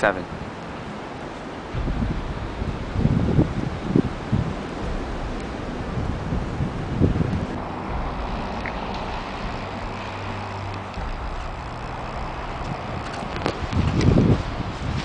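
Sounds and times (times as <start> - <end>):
low hum: 0.0 - 15.0
road traffic: 0.0 - 15.0
wind: 0.0 - 15.0.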